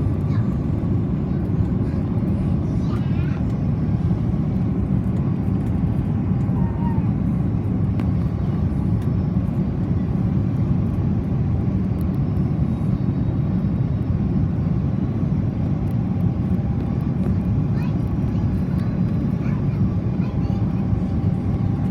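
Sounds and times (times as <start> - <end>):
airliner cabin rumble: 0.0 - 21.9.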